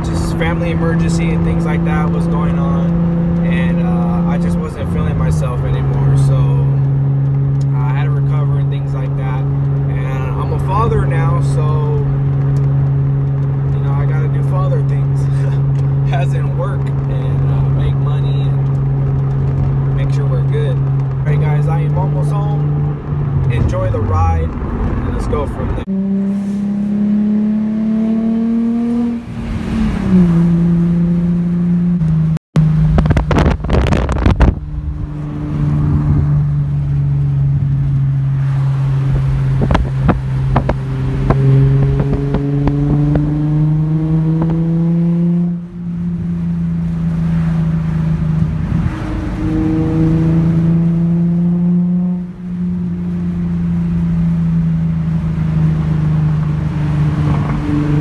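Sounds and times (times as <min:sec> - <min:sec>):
car engine revving in cabin: 0:00.0 - 0:58.0.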